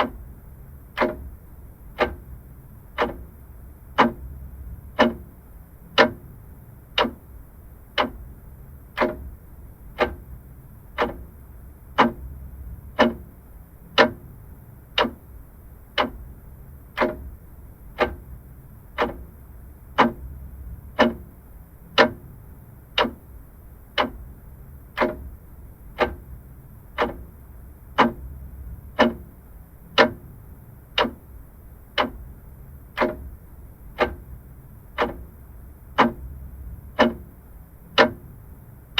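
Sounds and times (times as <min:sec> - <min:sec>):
mechanical clock ticking: 0:00.0 - 0:38.6
faint low hum: 0:00.0 - 0:38.9.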